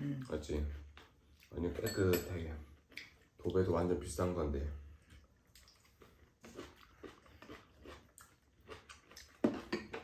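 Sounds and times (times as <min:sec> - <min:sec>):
people chewing: 0:00.0 - 0:10.0.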